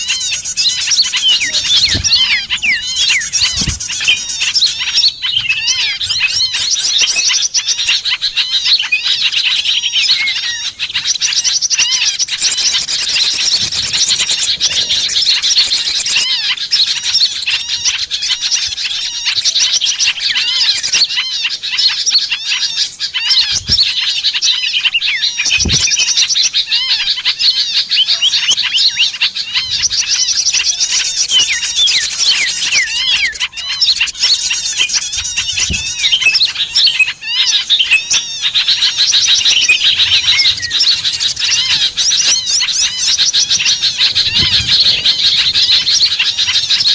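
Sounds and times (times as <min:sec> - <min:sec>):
songbirds chirping and twittering: 0:00.0 - 0:46.9.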